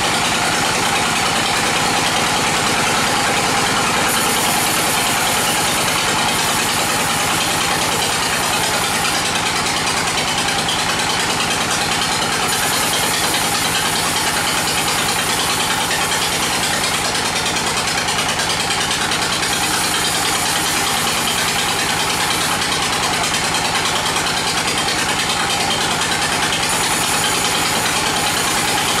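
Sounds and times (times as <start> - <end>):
bandsaw cutting log: 0.0 - 29.0.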